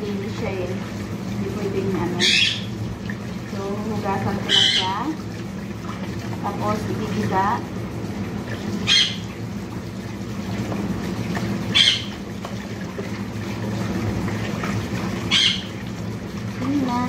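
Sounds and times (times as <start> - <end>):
tap water splashing in bowl: 0.2 - 17.0.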